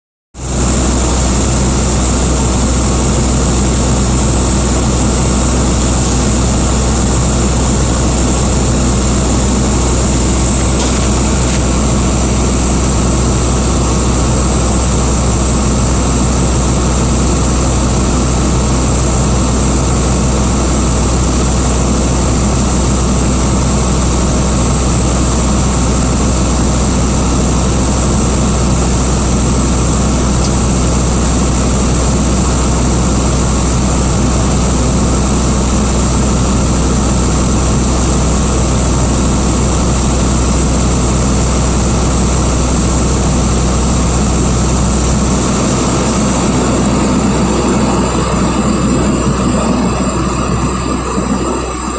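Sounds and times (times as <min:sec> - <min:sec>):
heavy engine droning with whine: 0:00.4 - 0:51.9.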